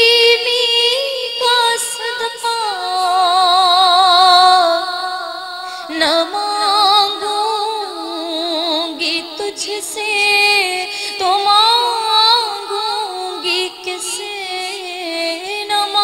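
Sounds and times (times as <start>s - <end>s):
woman singing with vibrato: 0.0s - 16.0s.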